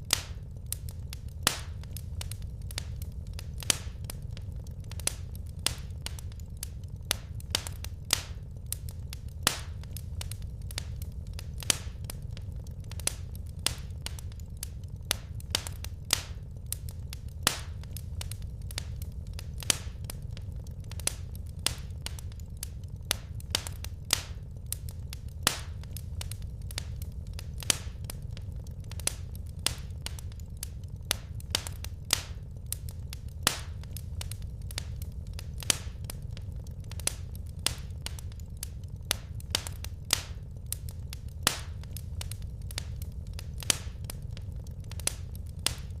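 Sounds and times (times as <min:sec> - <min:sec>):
low rumble: 0:00.0 - 0:46.0
wood fire crackling: 0:00.0 - 0:46.0.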